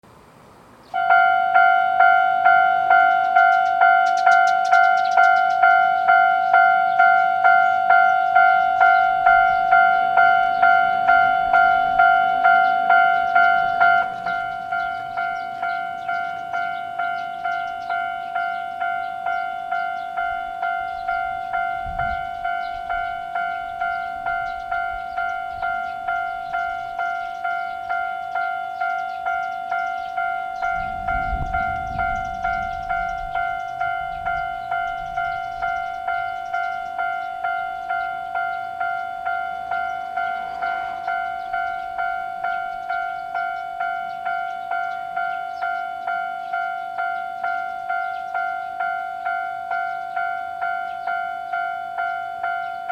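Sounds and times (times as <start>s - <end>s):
railroad crossing bell ringing: 0.9s - 52.9s.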